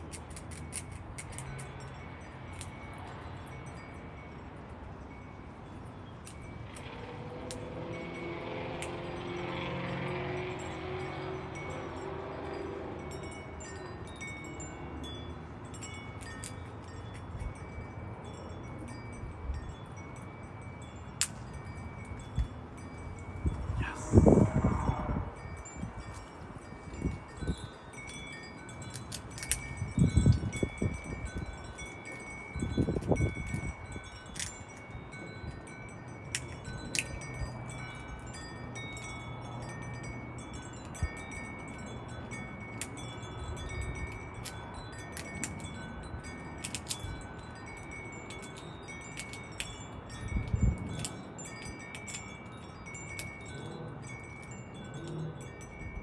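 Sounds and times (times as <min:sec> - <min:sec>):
wind chimes ringing: 0:00.0 - 0:56.0.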